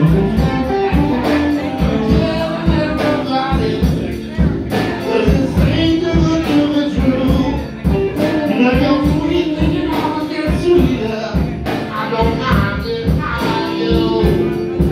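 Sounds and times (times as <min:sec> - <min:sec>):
drum kit beat: 0:00.0 - 0:14.9
electric bass: 0:00.0 - 0:14.9
electric guitar: 0:00.0 - 0:14.9.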